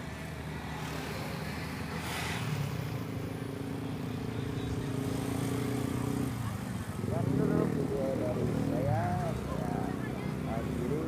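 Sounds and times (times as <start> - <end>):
traffic rush: 0.0 - 11.0.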